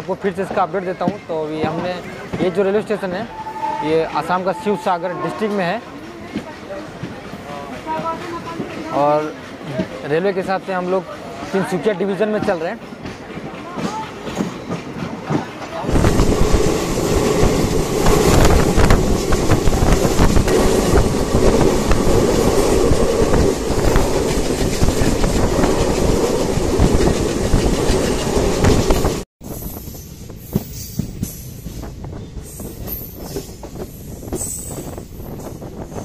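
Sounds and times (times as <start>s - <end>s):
train wheels clattering on rails: 5.6s - 36.0s.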